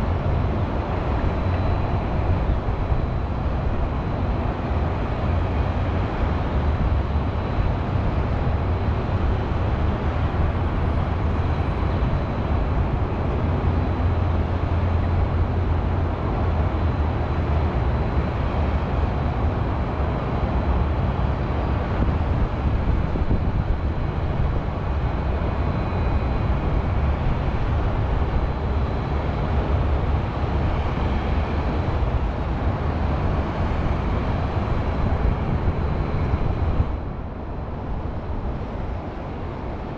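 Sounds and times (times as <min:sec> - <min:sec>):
highway traffic hum: 0:00.0 - 0:39.9.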